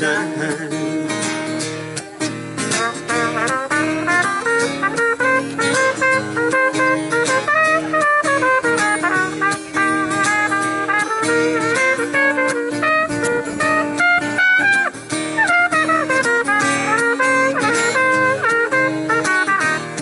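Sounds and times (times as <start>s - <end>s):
strummed acoustic guitar: 0.0s - 20.0s
trumpet melody: 2.7s - 20.0s.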